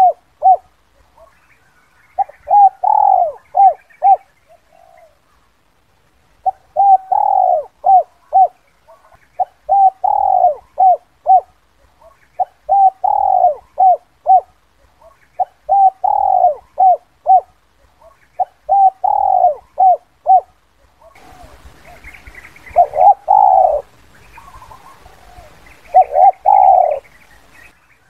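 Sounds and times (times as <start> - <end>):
dove cooing: 0.0 - 1.4, 2.2 - 5.4, 6.4 - 27.5.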